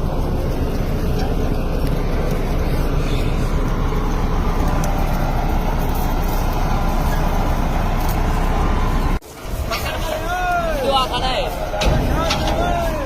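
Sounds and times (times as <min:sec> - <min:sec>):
wheat thresher machine rumbling: 0:00.0 - 0:13.0.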